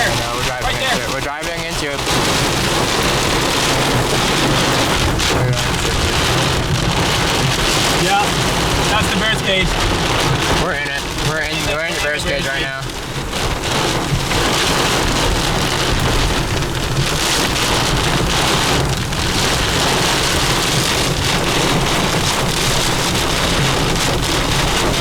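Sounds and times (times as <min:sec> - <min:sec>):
heavy rain pounding a vehicle: 0:00.0 - 0:25.0
strong wind: 0:00.0 - 0:25.0.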